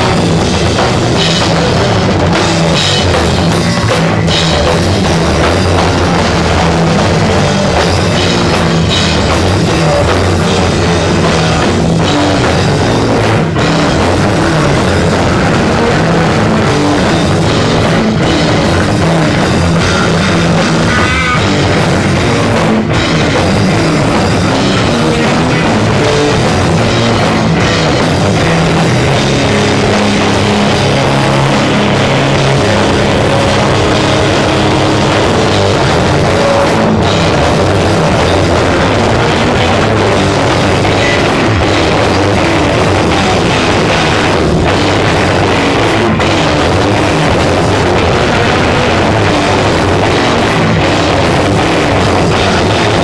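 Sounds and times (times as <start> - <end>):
distorted live rock band: 0.0 - 53.0.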